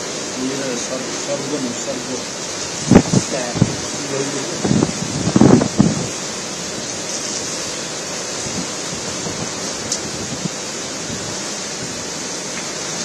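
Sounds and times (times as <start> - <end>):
heavy rain: 0.0 - 13.0
strong gusting wind: 0.0 - 13.0.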